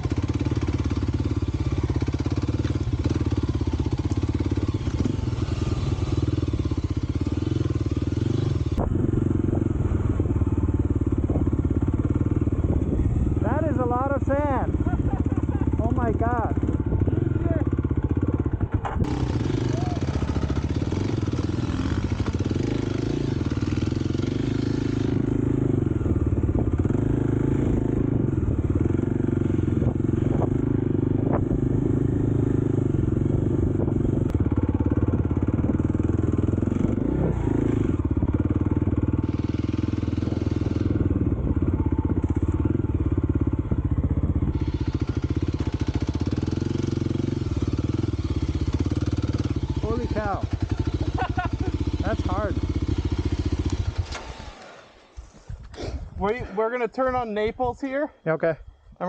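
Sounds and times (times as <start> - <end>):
dirt bike engine running: 0.0 - 57.8.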